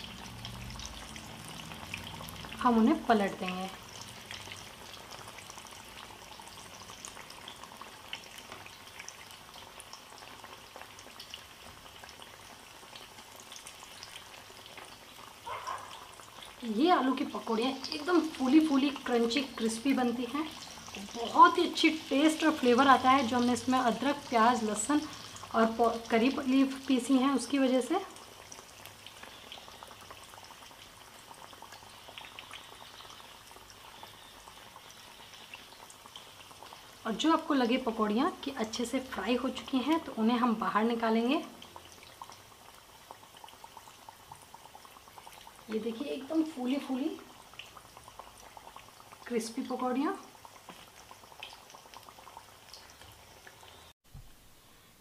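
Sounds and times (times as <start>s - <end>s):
potato slices deep-frying in oil: 0.0s - 55.0s.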